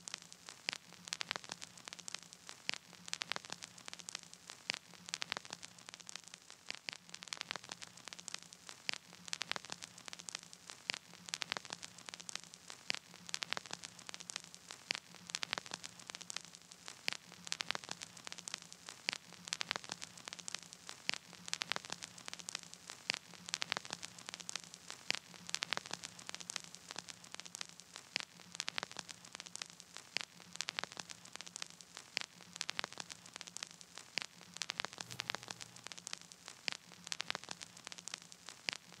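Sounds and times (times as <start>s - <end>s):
crackling static clicks and pops: 0.0s - 39.0s.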